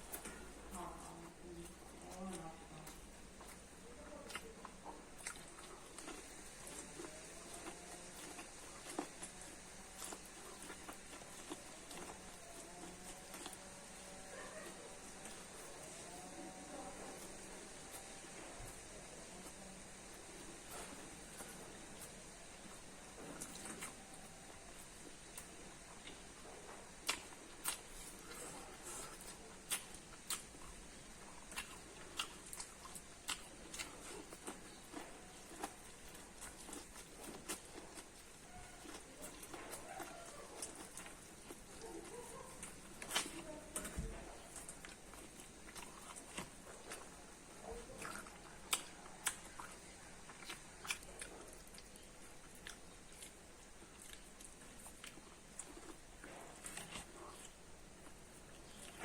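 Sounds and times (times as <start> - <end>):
person chewing corn: 0.0 - 59.0.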